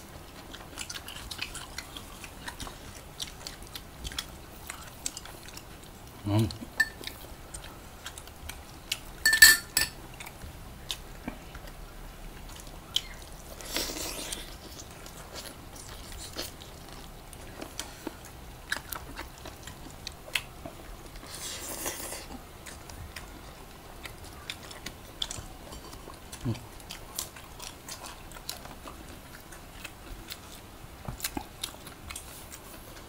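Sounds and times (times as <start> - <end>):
people chewing: 0.0 - 33.0.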